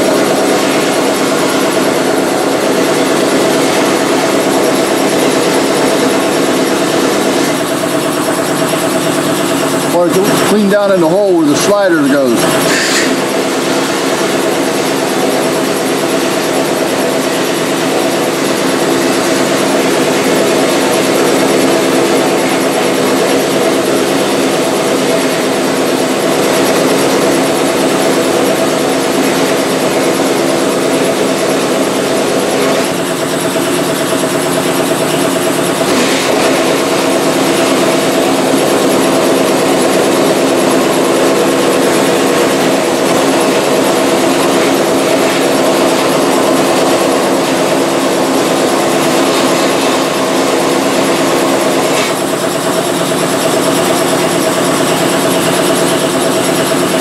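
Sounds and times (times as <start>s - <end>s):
steady mechanical drone: 0.0s - 57.0s.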